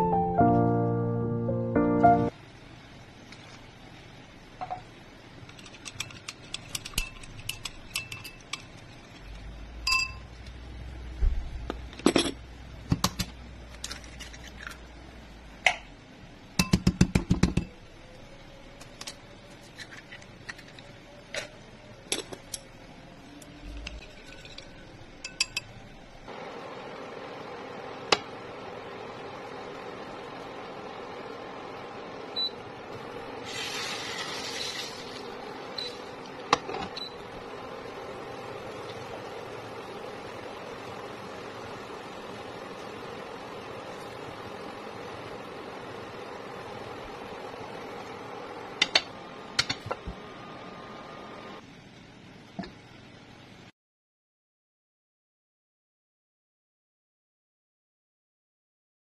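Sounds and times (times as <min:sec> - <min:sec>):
steady hum: 0:00.0 - 0:51.8.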